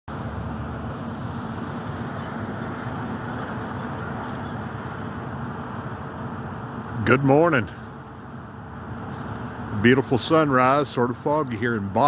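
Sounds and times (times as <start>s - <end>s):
car engine and tyres droning: 0.1s - 12.0s.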